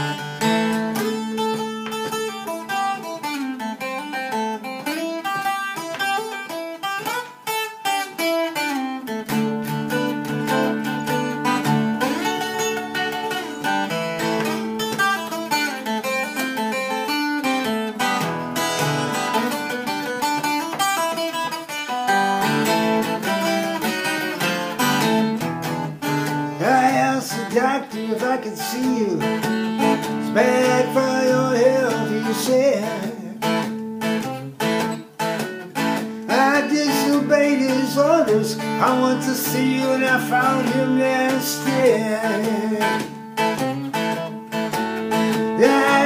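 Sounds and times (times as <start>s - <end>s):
solo acoustic blues guitar: 0.0s - 46.0s.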